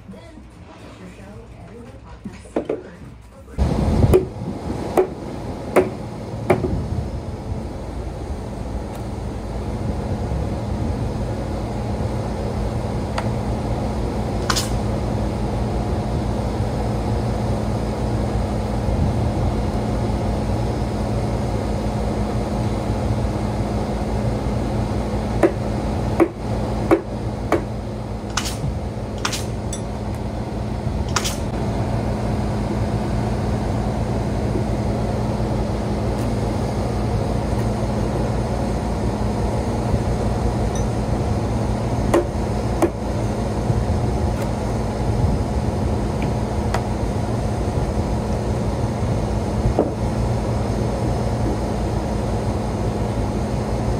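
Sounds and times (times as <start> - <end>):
engine drone: 0.0 - 53.9.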